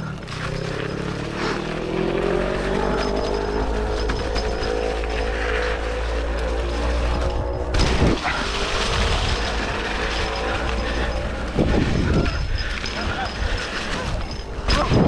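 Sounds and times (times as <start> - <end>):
bike jolt: 0.0 - 15.0
tyres rumbling on dirt: 0.0 - 15.0.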